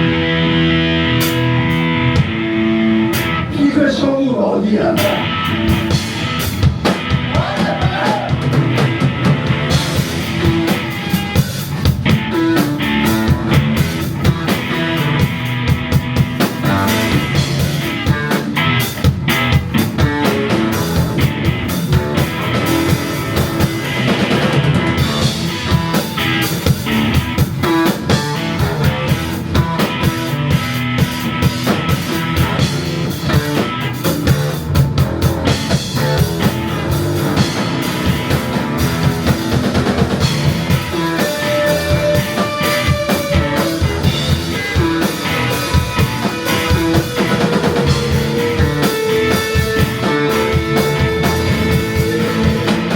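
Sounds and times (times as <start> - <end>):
instrumental rock band playing: 0.0 - 52.9.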